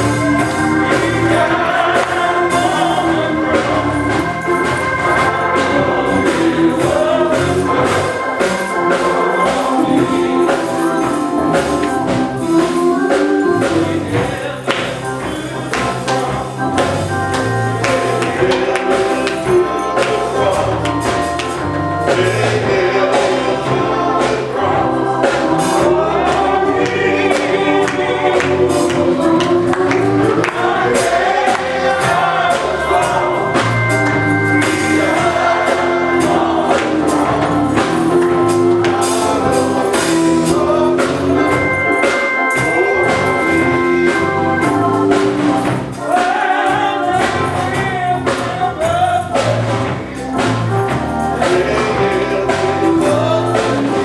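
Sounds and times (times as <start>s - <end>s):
drums keeping a beat: 0.0s - 54.0s
gospel choir singing with band: 0.0s - 54.0s.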